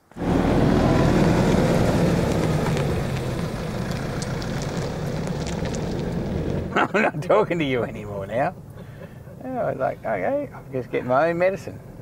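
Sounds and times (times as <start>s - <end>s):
truck engine hum: 0.0s - 12.0s.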